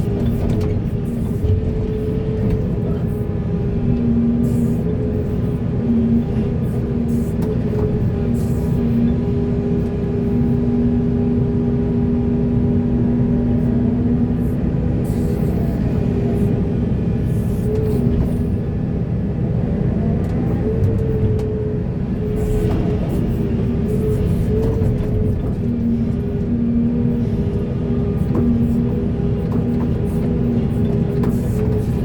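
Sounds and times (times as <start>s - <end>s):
heavy diesel engine droning: 0.0s - 32.0s.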